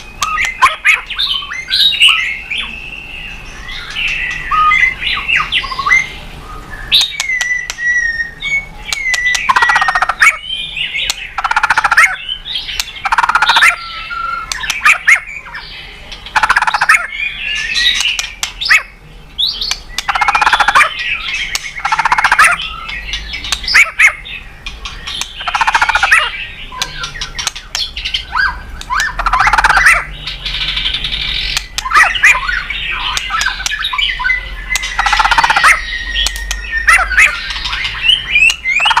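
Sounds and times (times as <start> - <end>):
bird singing varied phrases: 0.0 - 39.0.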